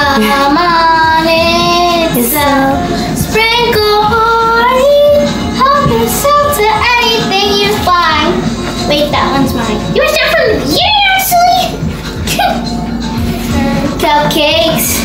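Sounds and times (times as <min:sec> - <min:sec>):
child singing: 0:00.0 - 0:11.9, 0:13.5 - 0:15.0
pop backing track: 0:00.0 - 0:15.0.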